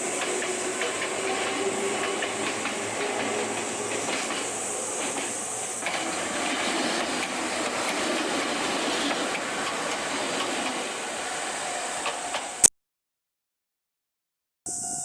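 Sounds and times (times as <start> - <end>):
train running on rails: 0.0 - 12.7, 14.7 - 15.0.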